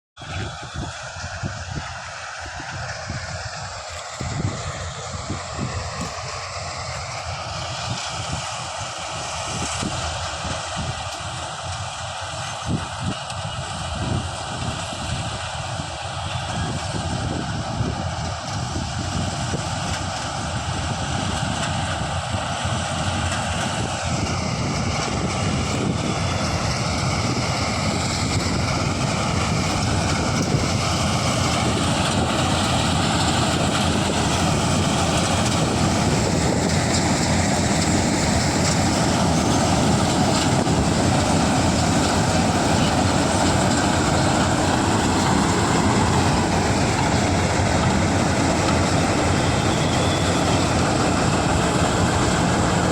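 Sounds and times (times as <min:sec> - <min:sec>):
combine harvester drone: 0:00.2 - 0:52.9.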